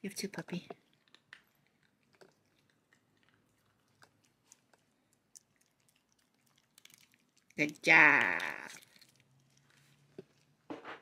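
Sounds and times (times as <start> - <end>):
dogs chewing kibble: 0.8 - 10.4.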